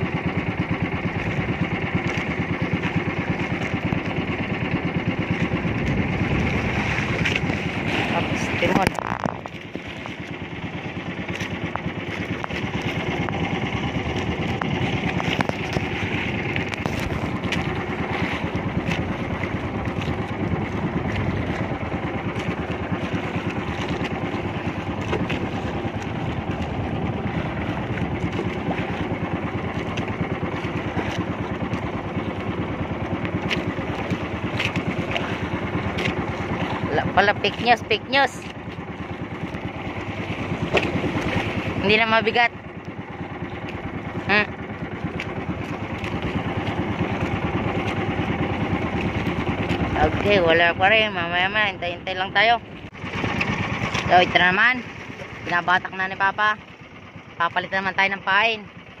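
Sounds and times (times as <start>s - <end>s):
boat engine rumbling: 0.0s - 59.0s
water splashing: 0.0s - 59.0s.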